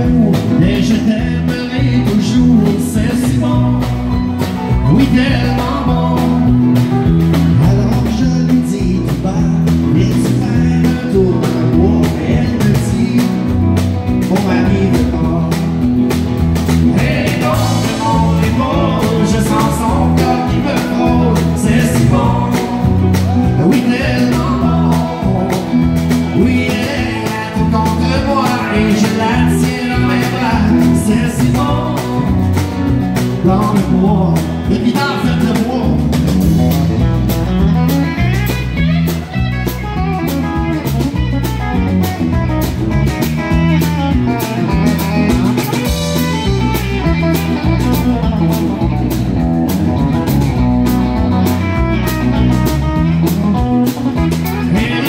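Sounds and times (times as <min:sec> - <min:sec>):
acoustic and electric guitars: 0:00.0 - 0:55.0
drum kit beat: 0:00.0 - 0:55.0
electric bass: 0:00.0 - 0:55.0.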